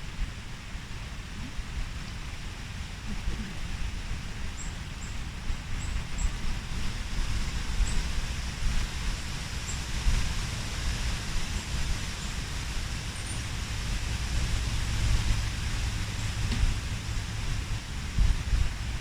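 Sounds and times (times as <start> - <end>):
steady rushing hiss: 0.0 - 19.0
wind buffeting microphone: 0.1 - 19.0.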